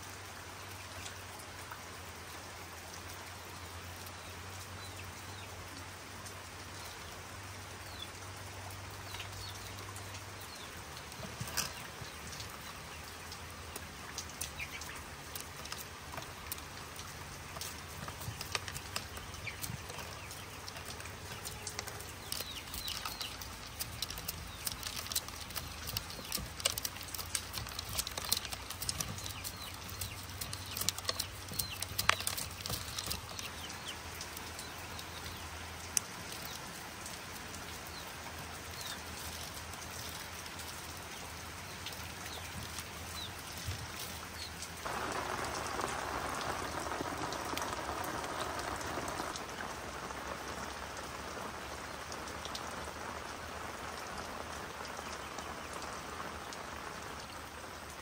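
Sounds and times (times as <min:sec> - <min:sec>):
steady rain hiss: 0:00.0 - 0:58.0
raindrops tapping: 0:06.1 - 0:58.0.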